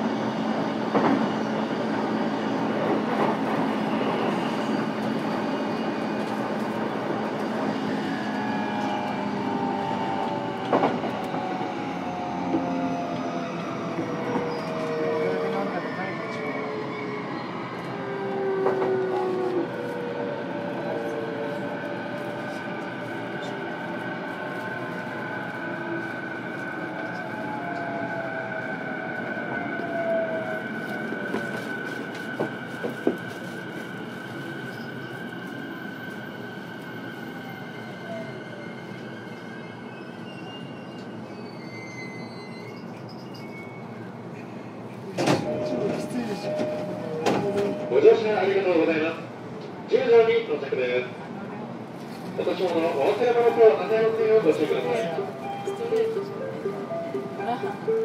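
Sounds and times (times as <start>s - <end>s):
train running noise: 0.0s - 41.3s, 42.5s - 58.0s
wheels rumbling on rail: 0.0s - 58.0s.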